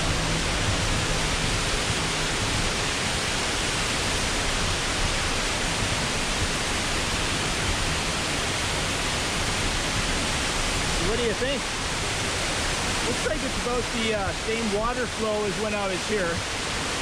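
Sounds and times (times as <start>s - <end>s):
waterfall pouring: 0.0s - 17.0s.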